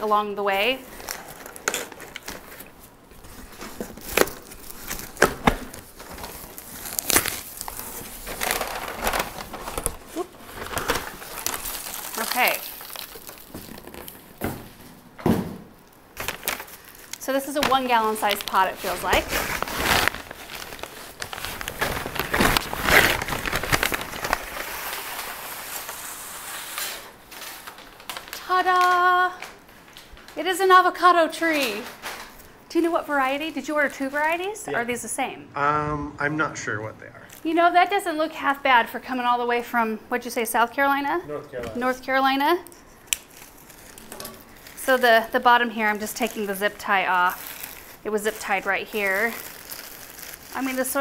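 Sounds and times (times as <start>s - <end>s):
paper wrapping crinkling: 0.0s - 14.8s, 15.8s - 34.6s, 42.1s - 51.0s.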